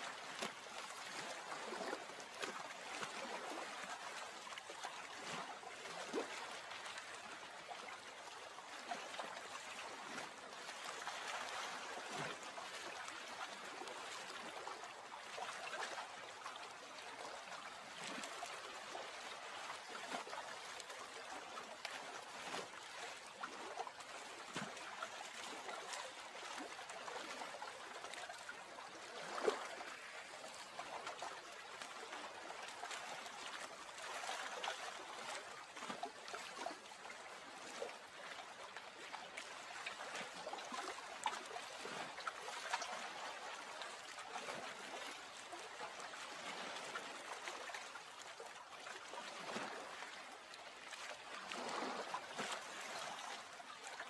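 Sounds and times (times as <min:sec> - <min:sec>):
water lapping and trickling: 0:00.0 - 0:54.0.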